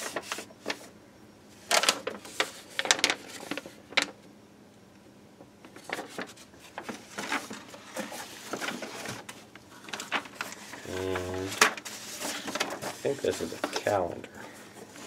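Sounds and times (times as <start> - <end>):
paper rustling and crinkling: 0.0 - 0.9, 1.6 - 4.1, 5.7 - 15.0.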